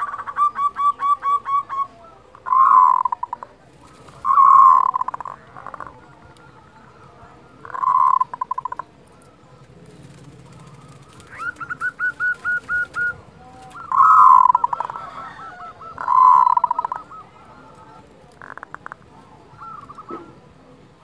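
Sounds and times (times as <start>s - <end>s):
dove rattling call: 0.0s - 20.6s.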